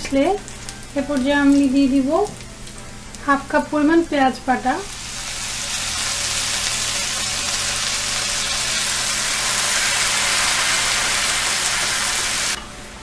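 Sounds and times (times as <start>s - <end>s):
onion paste sizzling in oil: 0.0s - 12.6s.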